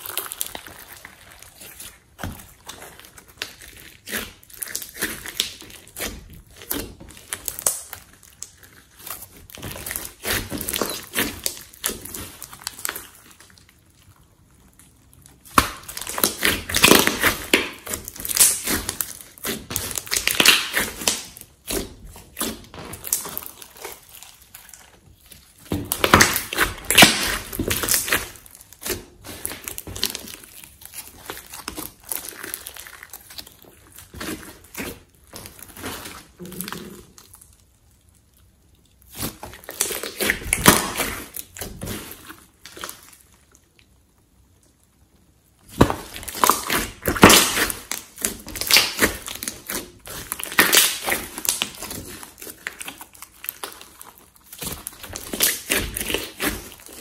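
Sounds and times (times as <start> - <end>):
hands squishing sticky slime: 0.0 - 57.0.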